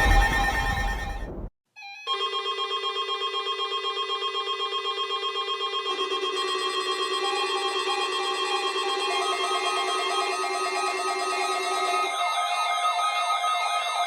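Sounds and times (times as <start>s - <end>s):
warbling siren-like alarm: 0.0s - 1.4s, 2.1s - 14.0s.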